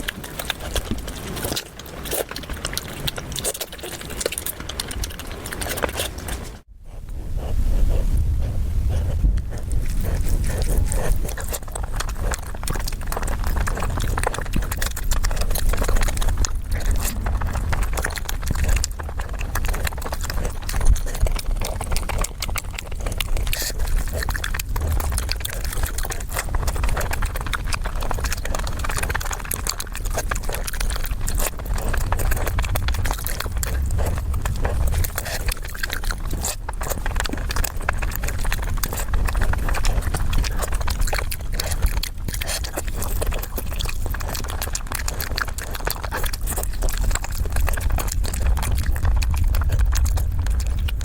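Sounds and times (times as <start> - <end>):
crunching and smacking while chewing: 0.0 - 51.0.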